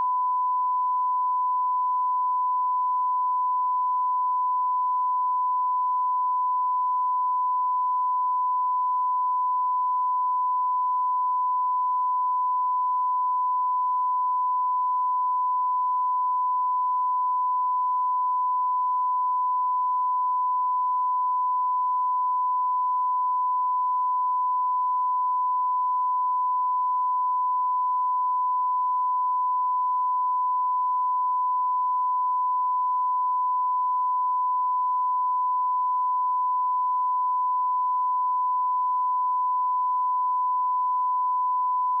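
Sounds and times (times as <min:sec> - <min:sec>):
sine-wave test tone: 0:00.0 - 0:42.0.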